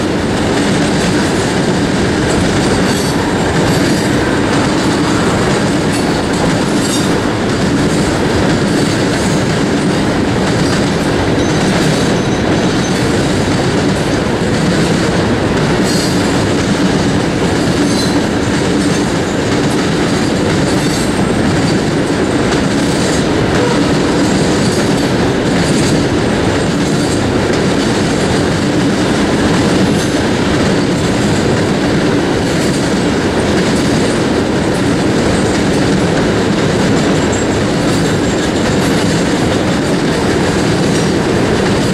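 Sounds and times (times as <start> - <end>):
steel wheels rumbling on rail: 0.0 - 41.9.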